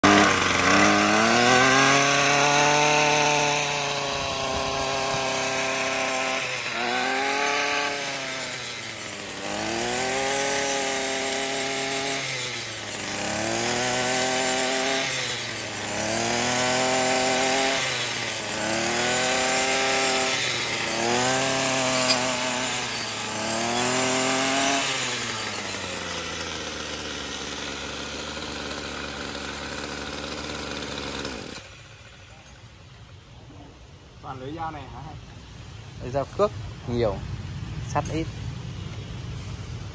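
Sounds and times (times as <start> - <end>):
string trimmer revving: 0.0 - 32.6
trimmer line cutting grass: 0.0 - 33.2.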